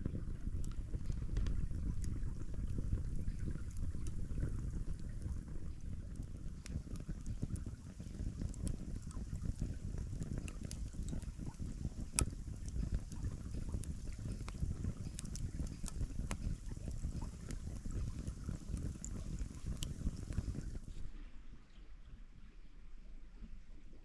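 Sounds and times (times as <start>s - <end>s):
faint clicks and ticks: 0.0s - 21.0s
stream running water: 0.0s - 24.0s.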